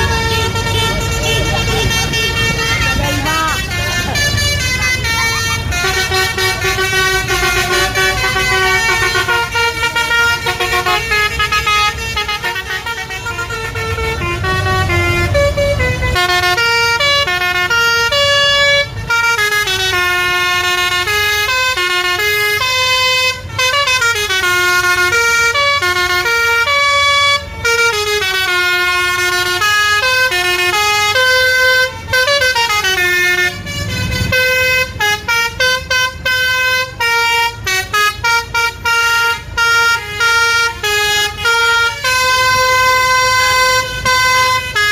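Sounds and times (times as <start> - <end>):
bus musical horn playing a tune: 0.0 - 44.9
low engine rumble: 0.0 - 44.9.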